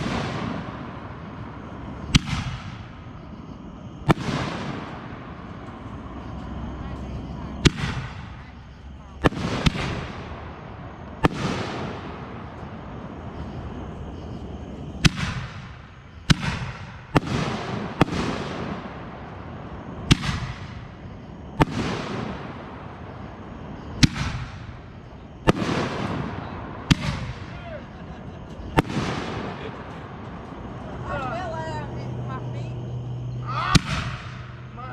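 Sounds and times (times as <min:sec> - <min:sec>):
fireworks bangs with hiss: 0:00.0 - 0:31.7, 0:32.9 - 0:34.9.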